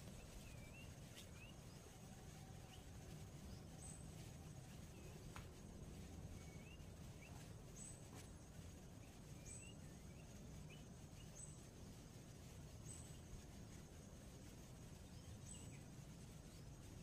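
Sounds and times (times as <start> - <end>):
soft rising chirps: 0.0 - 17.0.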